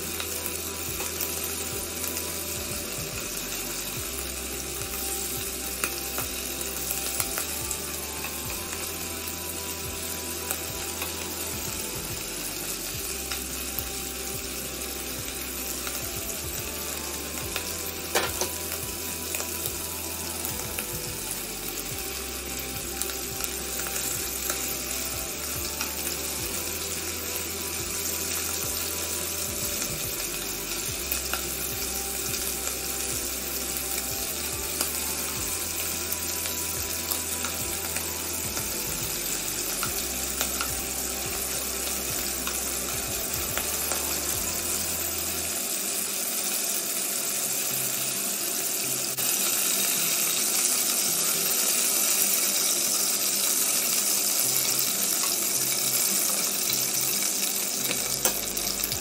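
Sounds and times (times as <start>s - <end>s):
meat sizzling in oil: 0.0s - 59.0s.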